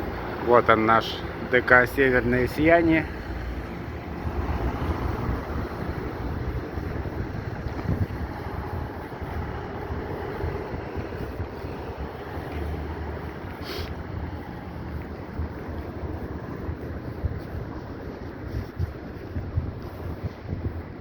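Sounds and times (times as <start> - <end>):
wind buffeting microphone: 1.3 - 21.0.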